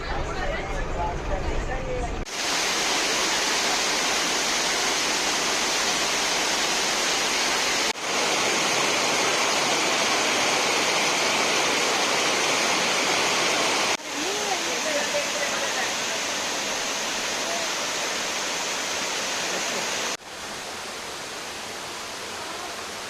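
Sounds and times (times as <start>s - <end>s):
waterfall rushing: 2.3s - 23.0s.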